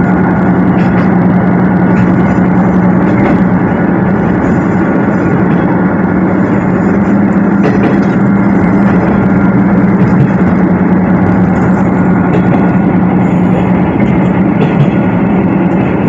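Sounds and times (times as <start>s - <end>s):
diesel engine drone: 0.0s - 16.0s
train running noise: 0.0s - 16.0s.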